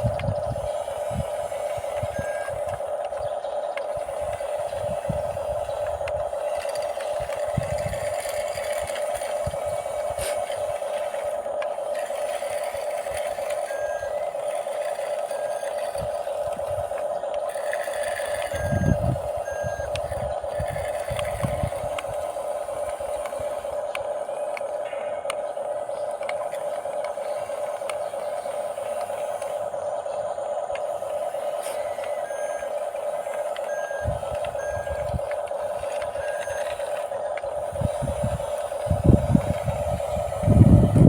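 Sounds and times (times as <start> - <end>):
electric motors whining: 0.0 - 41.0.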